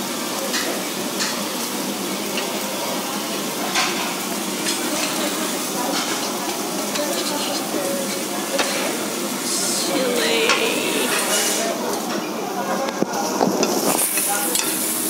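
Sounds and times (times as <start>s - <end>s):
shrimp sizzling on grill: 0.0s - 15.0s.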